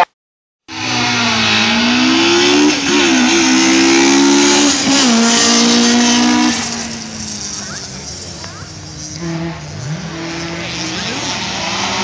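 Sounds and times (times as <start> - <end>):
car engine at high revs: 0.7 - 12.0.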